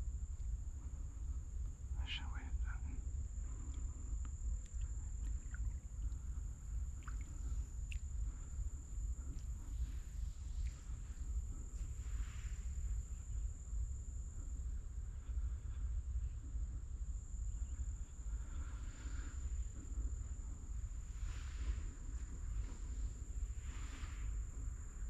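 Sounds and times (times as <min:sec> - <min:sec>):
insect high-pitched drone: 0:00.0 - 0:25.0
faint rustles: 0:02.3 - 0:25.0.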